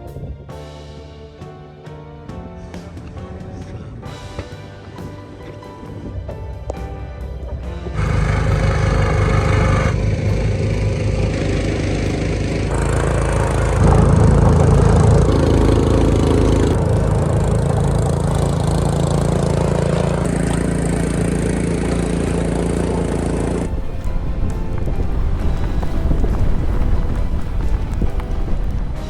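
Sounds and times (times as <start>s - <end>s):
engine running steadily: 2.8s - 29.0s.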